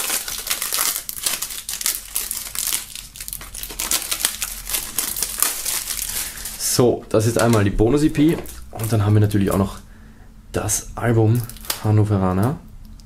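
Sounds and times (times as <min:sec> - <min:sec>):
plastic film crinkling: 0:00.0 - 0:09.8, 0:11.3 - 0:12.1.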